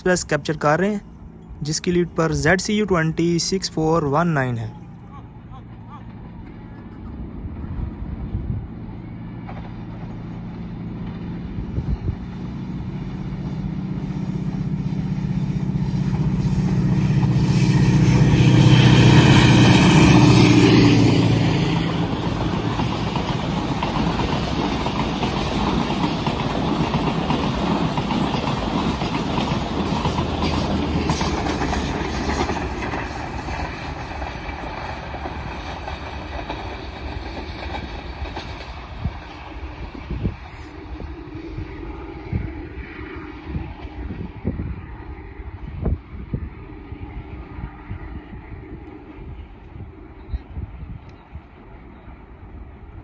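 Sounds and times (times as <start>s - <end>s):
coach wheels rumbling on rails: 0.0s - 53.0s
locomotive engine drone: 0.0s - 53.0s.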